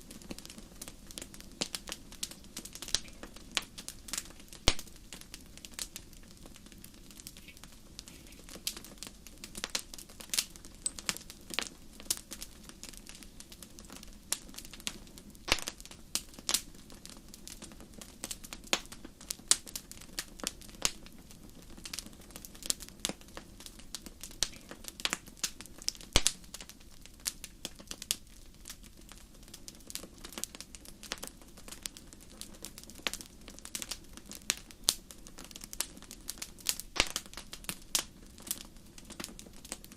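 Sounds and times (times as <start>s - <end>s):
hiss of flames: 0.0s - 39.9s
wood fire crackling and popping: 0.0s - 39.9s.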